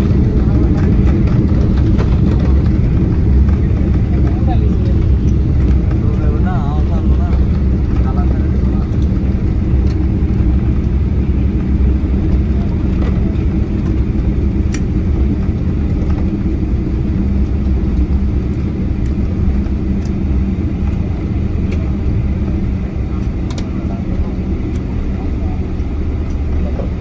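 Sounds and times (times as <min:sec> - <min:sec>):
airliner engine and airflow rumble: 0:00.0 - 0:27.0.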